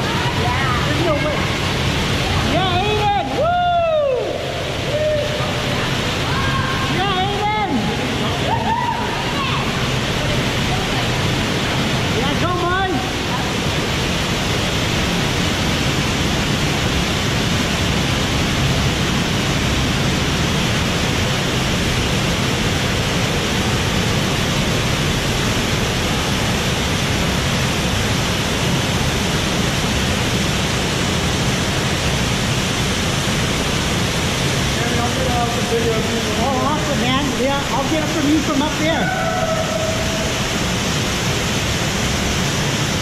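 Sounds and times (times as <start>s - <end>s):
waterfall pouring into pool: 0.0s - 43.0s.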